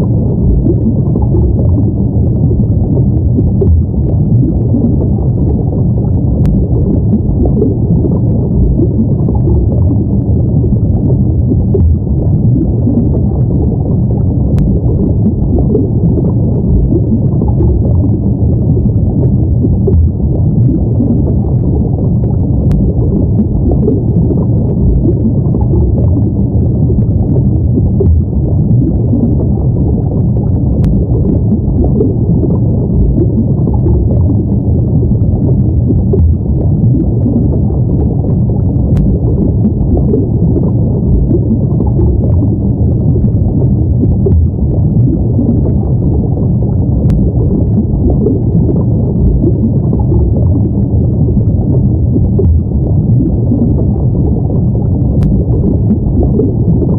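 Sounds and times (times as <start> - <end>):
muffled underwater water rumble: 0.0 - 56.9.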